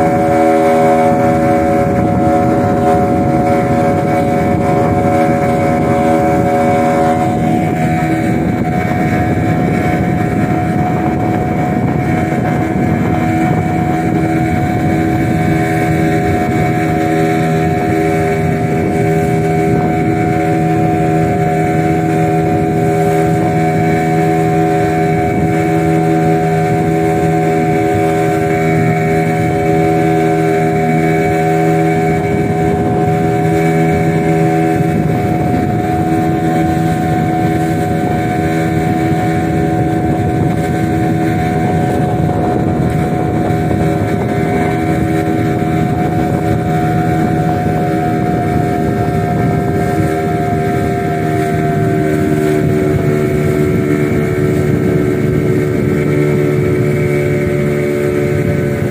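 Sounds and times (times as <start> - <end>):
motorboat engine droning: 0.0 - 58.9.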